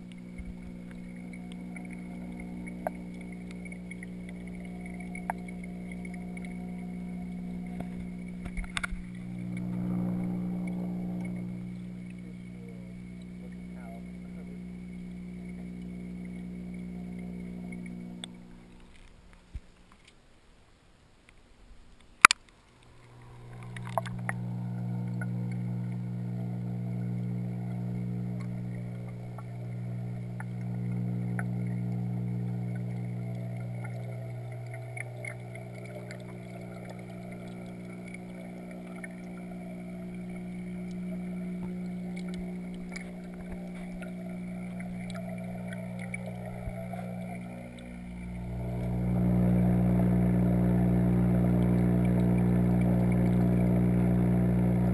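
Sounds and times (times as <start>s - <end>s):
air bubbles rising underwater: 0.0s - 19.2s, 22.7s - 54.9s
aquarium pump hum: 0.0s - 19.3s, 22.2s - 54.9s.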